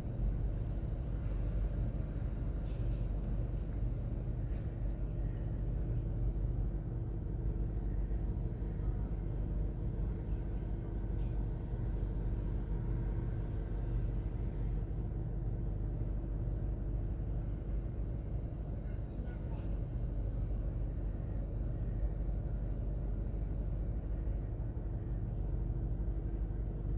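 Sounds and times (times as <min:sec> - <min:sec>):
constant hum: 0:00.0 - 0:26.9
low mechanical rumble: 0:00.0 - 0:26.9.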